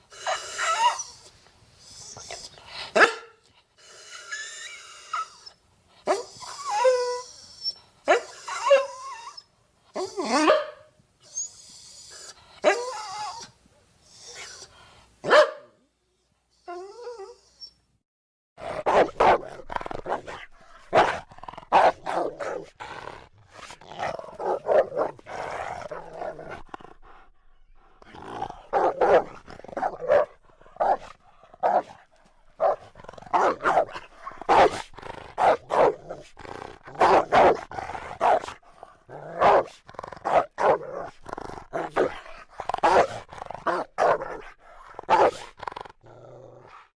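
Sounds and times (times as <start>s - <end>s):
dog barking and growling: 0.0s - 1.3s, 2.0s - 7.3s, 8.0s - 10.9s, 11.9s - 13.5s, 14.2s - 15.8s, 18.6s - 46.9s.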